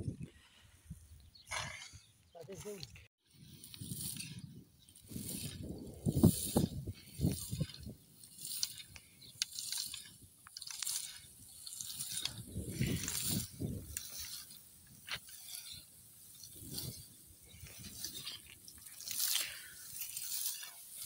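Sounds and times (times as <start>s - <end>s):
dry stalks rustling and crackling: 2.4s - 21.0s
seeds and straw pattering: 2.4s - 21.0s.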